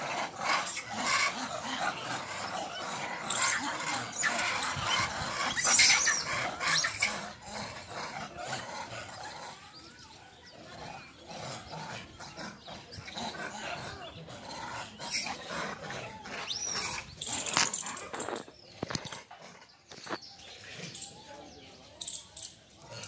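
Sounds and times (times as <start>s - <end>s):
animal growls: 0.0s - 19.9s.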